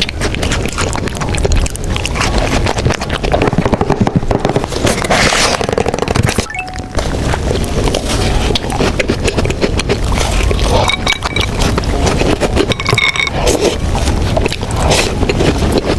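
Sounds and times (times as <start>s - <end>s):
chewing crunchy cookie: 0.0s - 15.9s.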